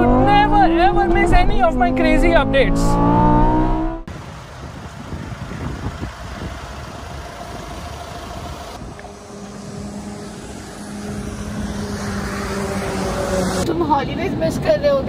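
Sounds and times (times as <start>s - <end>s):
diesel engine running: 0.0s - 13.6s
tyres on wet road: 2.9s - 15.0s.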